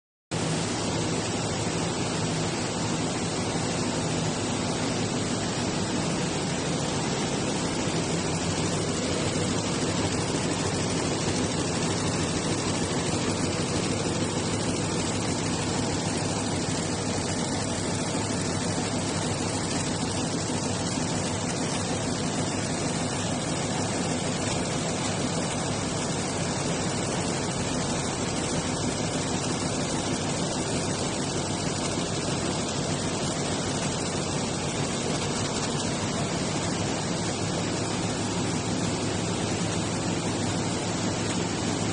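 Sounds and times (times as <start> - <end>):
loom rapid clatter: 0.4 - 41.9.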